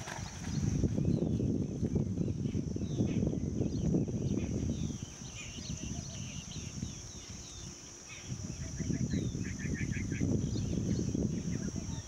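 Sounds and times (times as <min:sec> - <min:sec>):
small birds chirping: 0:00.0 - 0:12.0
steady high-pitched hum: 0:00.2 - 0:12.0.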